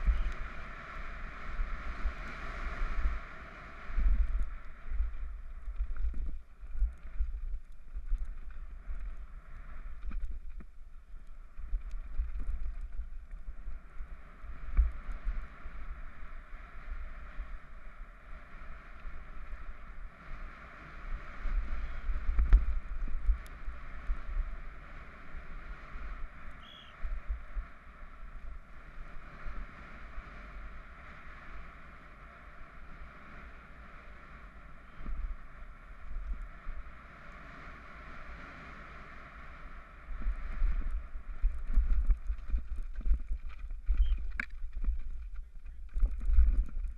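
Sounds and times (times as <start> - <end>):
mountain bike rumbling and rattling: 0.0 - 46.9
wind buffeting camera: 0.0 - 46.9.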